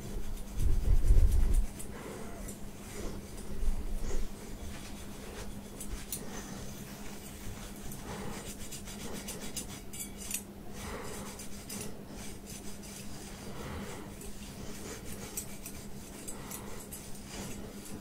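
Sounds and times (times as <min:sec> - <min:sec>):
metal prongs scratching hair: 0:00.0 - 0:18.0.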